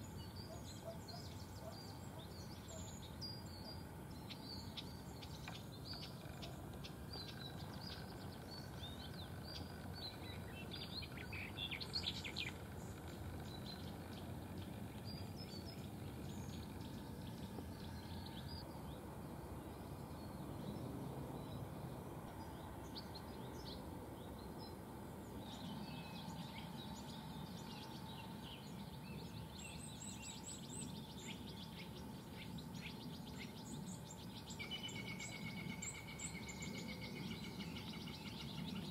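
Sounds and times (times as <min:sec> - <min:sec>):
small songbirds chirping: 0:00.0 - 0:38.9
steady low background noise: 0:00.0 - 0:38.9.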